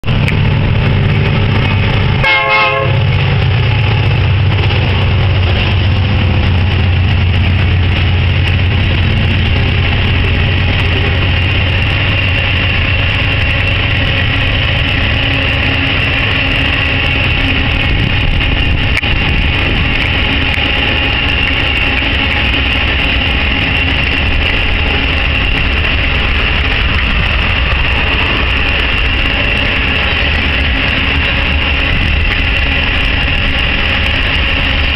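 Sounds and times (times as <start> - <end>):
diesel locomotive engines droning: 0.0 - 34.9
freight wagons rumbling: 0.0 - 34.9
wheels ringing on rails: 0.0 - 34.9.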